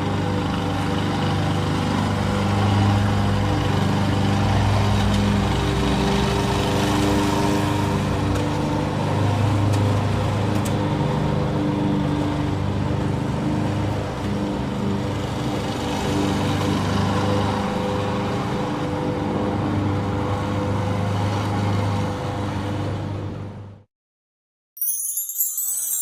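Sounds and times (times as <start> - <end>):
lawn mower engine running: 0.0 - 23.3.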